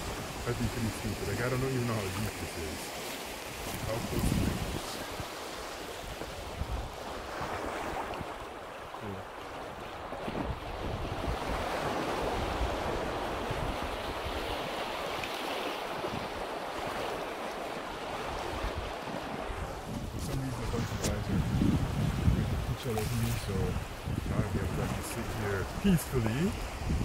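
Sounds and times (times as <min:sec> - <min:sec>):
wind buffeting microphone: 0:00.0 - 0:02.7, 0:03.5 - 0:15.2, 0:18.0 - 0:27.0
small waves washing on shore: 0:00.0 - 0:27.0.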